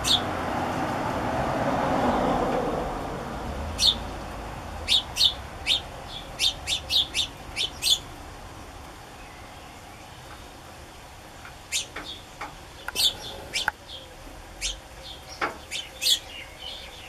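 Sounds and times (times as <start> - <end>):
sparrows chirping: 0.0 - 0.4, 3.6 - 17.0.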